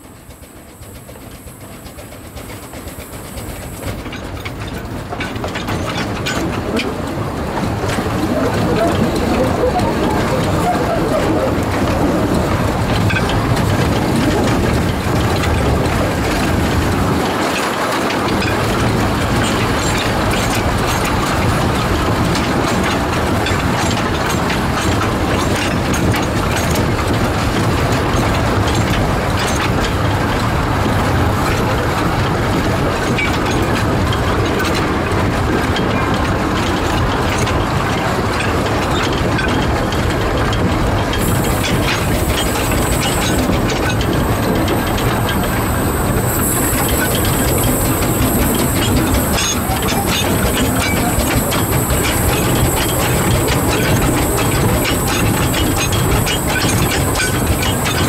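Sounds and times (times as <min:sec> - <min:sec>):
wheels rattling on rails: 0:00.0 - 0:58.0.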